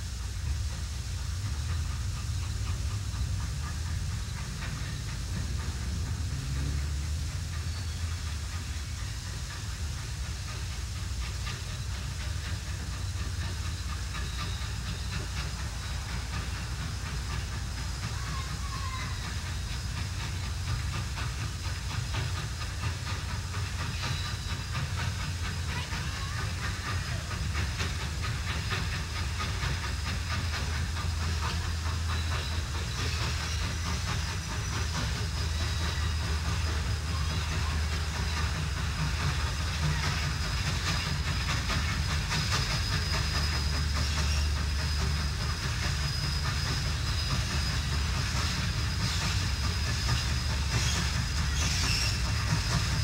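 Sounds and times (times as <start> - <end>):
steam hissing: 0.0 - 53.0
steam locomotive low rumble: 0.0 - 53.0.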